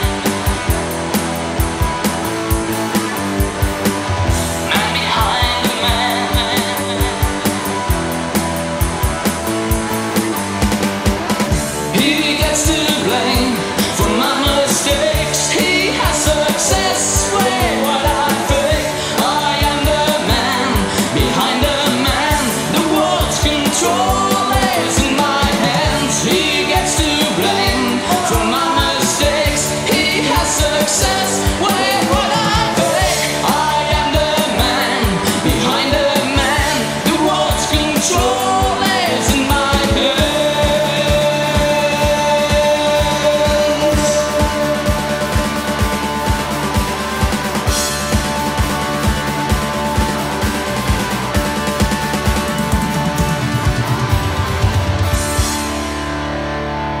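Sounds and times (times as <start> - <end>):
steady drum beat: 0.0 - 56.0
rock band playing: 0.0 - 57.0.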